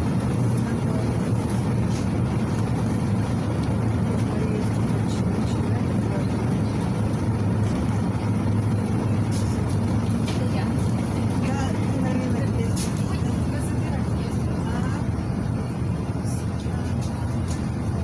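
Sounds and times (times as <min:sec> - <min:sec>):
bus diesel engine drone: 0:00.0 - 0:18.0
road noise: 0:00.0 - 0:18.0.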